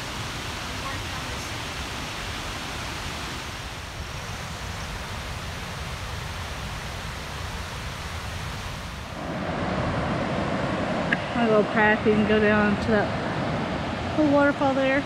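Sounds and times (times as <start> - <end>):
rushing mountain stream: 0.0 - 15.0.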